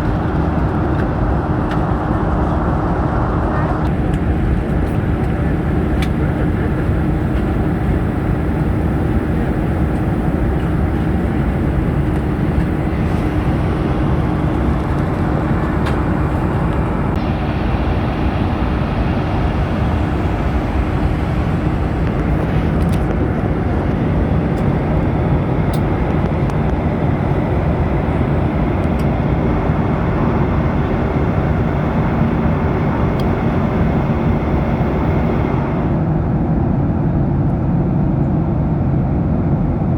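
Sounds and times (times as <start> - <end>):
airliner cabin engine rush: 0.0 - 39.9
constant low hum: 0.0 - 39.9.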